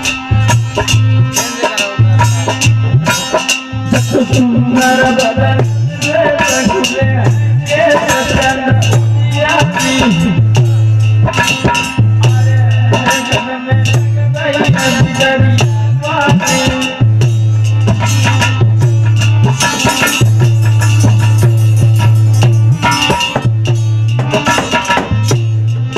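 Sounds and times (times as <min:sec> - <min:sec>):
hand drum beat: 0:00.0 - 0:25.9
harmonium melody: 0:00.0 - 0:25.9
rattling percussion: 0:00.0 - 0:25.9.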